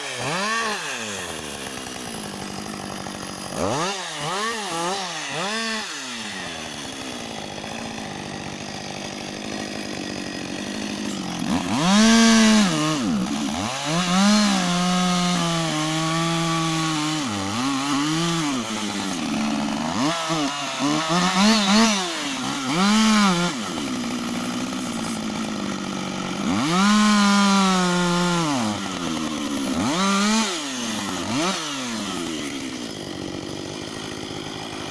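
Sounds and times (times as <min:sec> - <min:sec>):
chainsaw idling and revving: 0:00.0 - 0:34.9.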